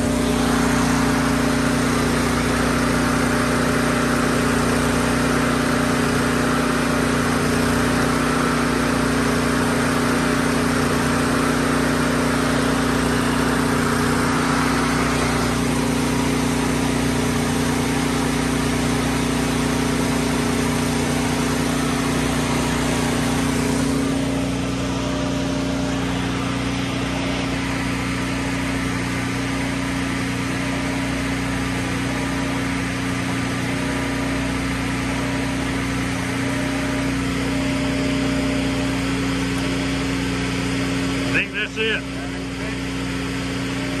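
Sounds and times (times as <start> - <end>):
engine-driven welder humming: 0.0 - 44.0.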